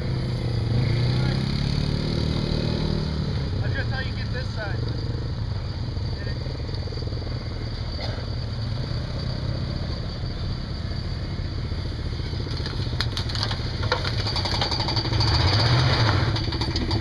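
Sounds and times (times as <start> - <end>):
truck engine at low revs: 0.0 - 17.0.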